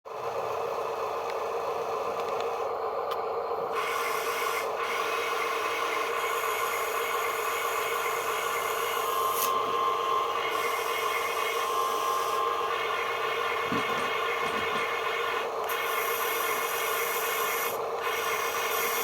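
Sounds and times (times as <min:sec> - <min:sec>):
toy electric motor whirring: 0:03.7 - 0:19.0.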